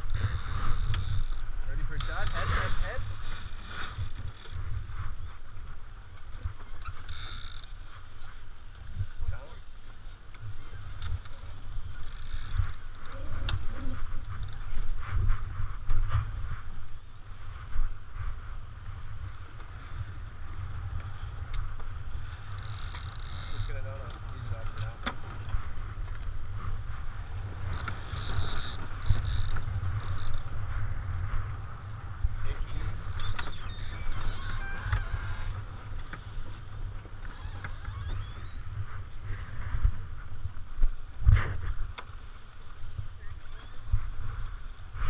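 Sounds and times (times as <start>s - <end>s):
water rushing along hull: 0.0s - 45.0s
wind buffeting microphone: 0.0s - 45.0s.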